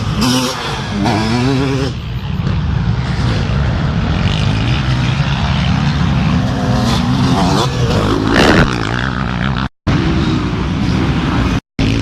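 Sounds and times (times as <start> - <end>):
racing motorcycle engines running: 0.0 - 12.0.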